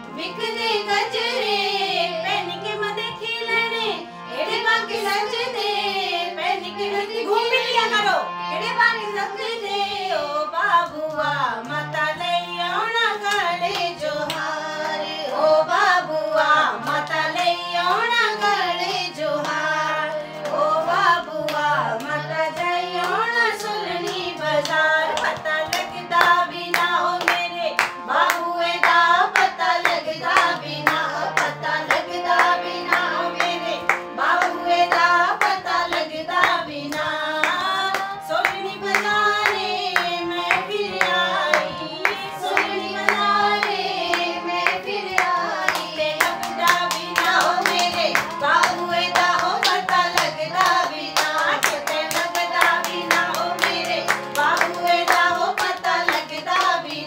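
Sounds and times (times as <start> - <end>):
women singing folk song: 0.0 - 57.0
hands clapping steady beat: 10.6 - 57.0.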